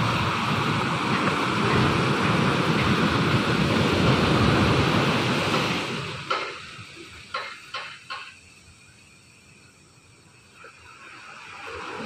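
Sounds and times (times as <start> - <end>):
surf washing up beach: 0.0 - 8.5, 10.2 - 12.0.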